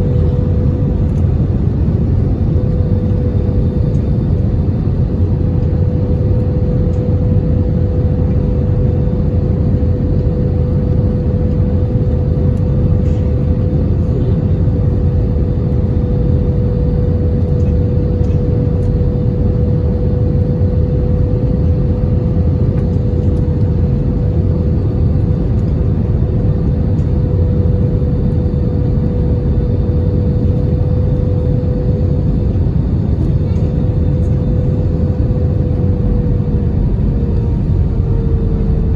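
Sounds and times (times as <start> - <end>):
airliner cabin rumble: 0.0 - 38.9
steady mid-pitched hum: 0.0 - 38.9.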